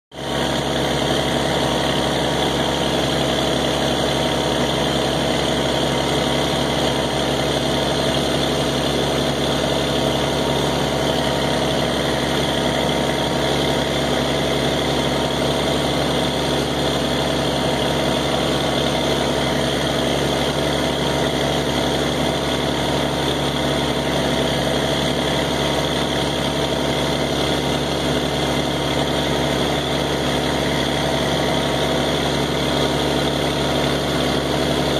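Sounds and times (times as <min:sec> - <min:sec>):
water pump engine running steadily: 0:00.1 - 0:34.9.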